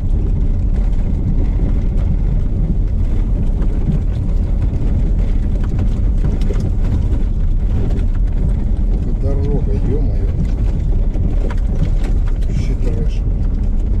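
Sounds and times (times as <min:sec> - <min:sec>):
engine and tyre rumble: 0:00.0 - 0:14.0
knocks and rattles from bumps: 0:00.0 - 0:14.0.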